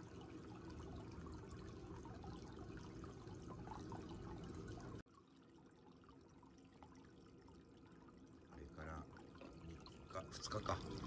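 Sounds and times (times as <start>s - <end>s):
small water splashes: 0.0s - 11.0s
water trickling and lapping: 0.0s - 11.0s.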